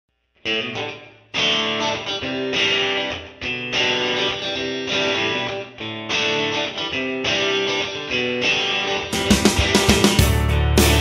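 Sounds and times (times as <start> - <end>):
strummed guitar chords: 0.4 - 11.0.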